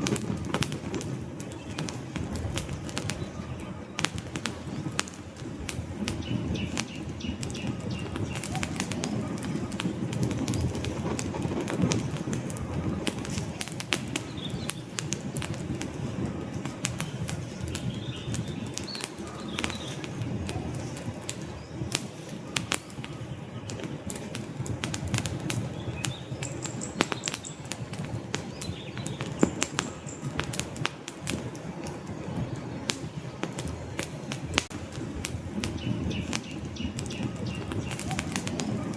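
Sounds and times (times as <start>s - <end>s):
low rumble of burning logs: 0.0s - 38.9s
sharp pops of burning wood: 0.0s - 38.9s
wood fire crackling: 0.0s - 38.9s.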